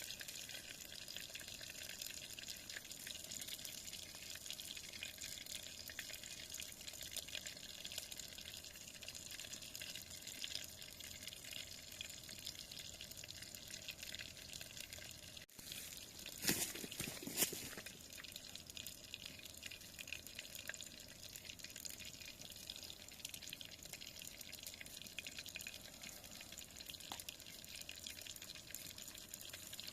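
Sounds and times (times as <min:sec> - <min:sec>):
small ticks and crackles: 0:00.0 - 0:29.9.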